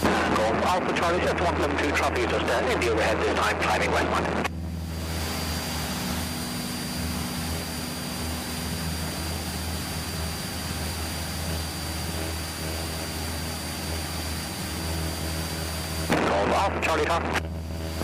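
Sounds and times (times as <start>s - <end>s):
airplane engine droning: 0.0s - 18.0s.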